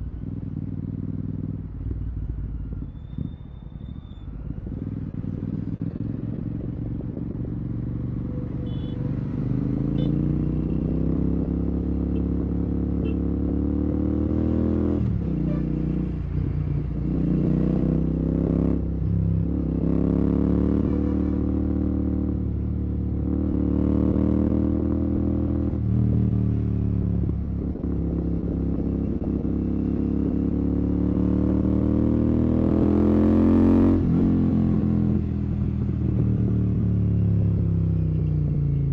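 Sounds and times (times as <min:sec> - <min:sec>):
motorcycle engine revving: 0:04.5 - 0:38.9.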